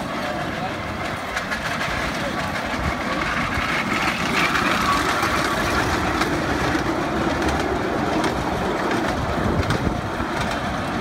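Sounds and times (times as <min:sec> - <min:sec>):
miniature train running past: 0:00.0 - 0:11.0
wheels clicking on rails: 0:00.0 - 0:11.0.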